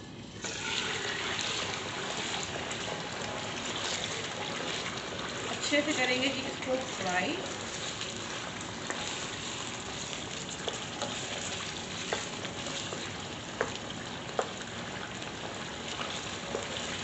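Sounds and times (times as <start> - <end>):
chicken sizzling in hot oil: 0.0 - 17.0
sharp ticks of frying oil: 0.4 - 17.0.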